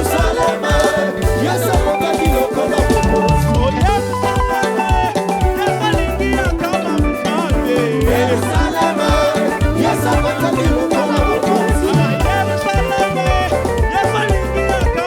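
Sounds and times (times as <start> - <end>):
band playing upbeat groove: 0.0 - 15.0
singing or lead melody: 0.0 - 15.0.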